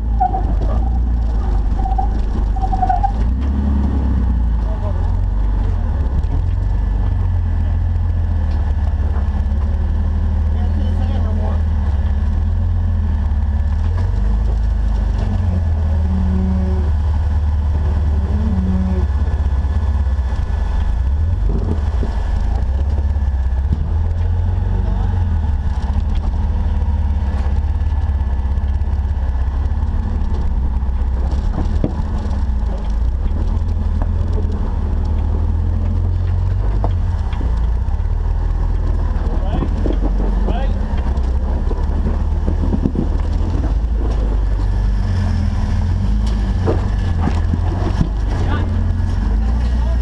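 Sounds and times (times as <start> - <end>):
off-road vehicle engine rumbling: 0.0 - 50.0.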